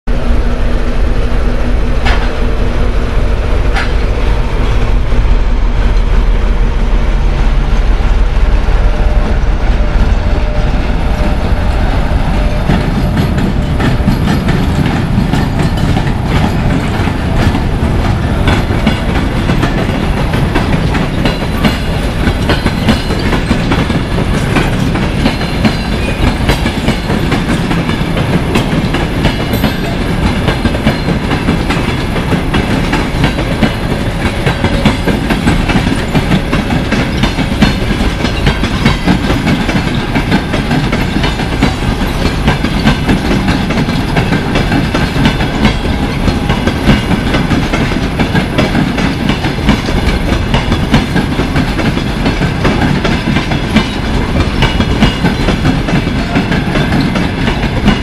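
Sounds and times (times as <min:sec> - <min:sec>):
train wheels clacking over rail joints: 0:00.2 - 0:58.0.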